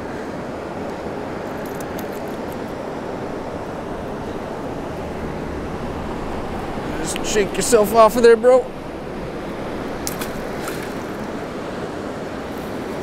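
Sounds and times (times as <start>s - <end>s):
fast-flowing river water: 0.0s - 13.0s.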